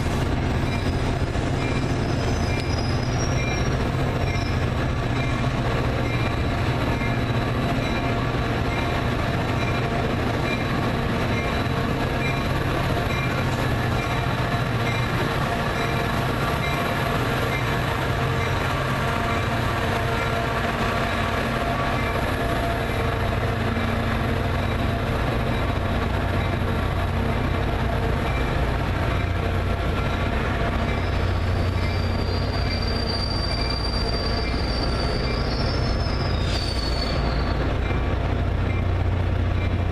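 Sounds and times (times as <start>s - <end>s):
train humming: 0.0s - 39.9s
train wheel squeal: 0.0s - 39.9s.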